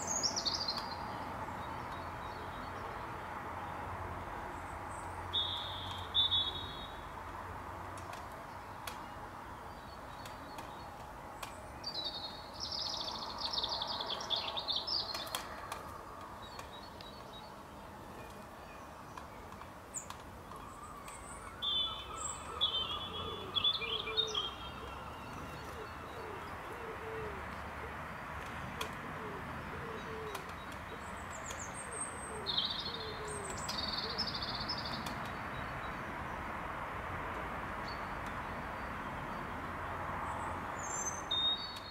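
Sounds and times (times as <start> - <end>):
birds singing: 0.0 - 7.4, 8.0 - 36.5, 37.8 - 41.9.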